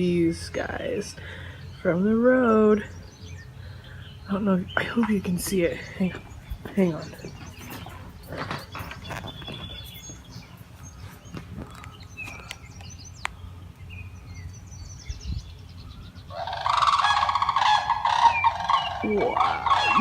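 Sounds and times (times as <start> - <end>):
cranes calling: 0.0 - 13.8, 15.7 - 20.0
small birds chirping: 0.0 - 20.0.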